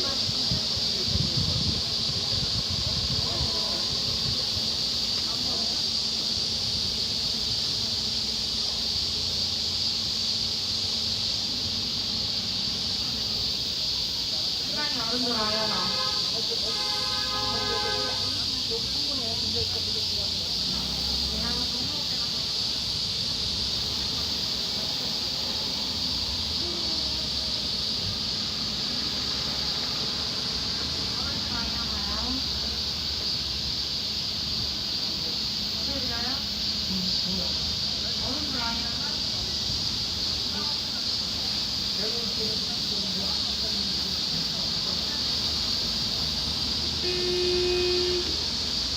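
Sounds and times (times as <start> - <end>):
cicadas buzzing: 0.0 - 48.9.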